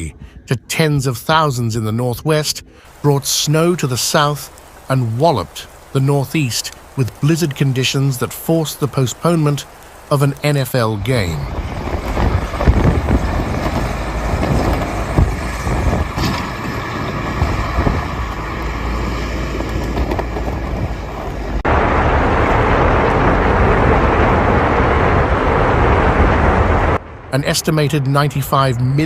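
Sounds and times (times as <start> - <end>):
road vehicle rumble: 0.0 - 29.0
steady rushing noise: 2.4 - 29.0.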